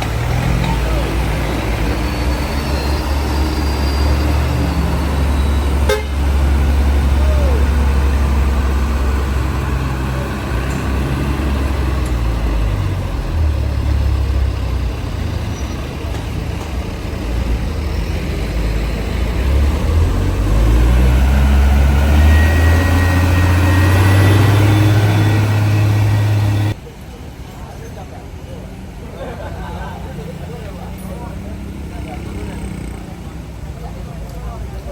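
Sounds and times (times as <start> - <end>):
heavy vehicle engines rumbling: 0.0 - 34.9.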